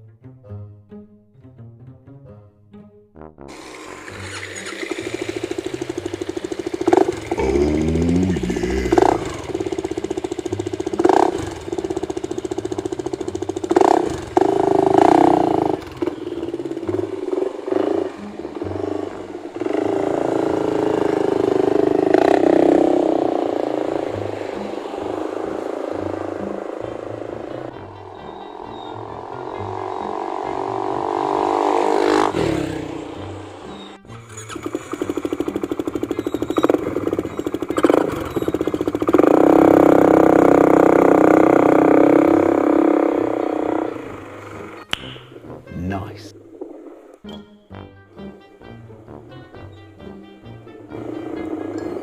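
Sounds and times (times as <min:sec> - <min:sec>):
scooter engine idling and revving: 0:03.5 - 0:45.4, 0:50.3 - 0:52.0.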